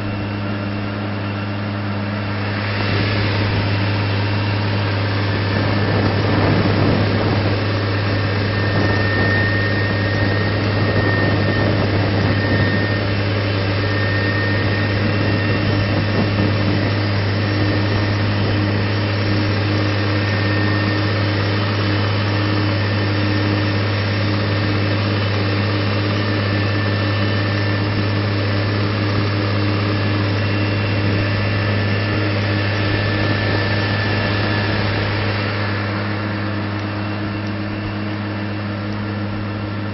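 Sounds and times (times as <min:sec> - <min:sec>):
faint high whine: 0:00.0 - 0:39.9
tractor diesel engine under load: 0:00.0 - 0:39.9.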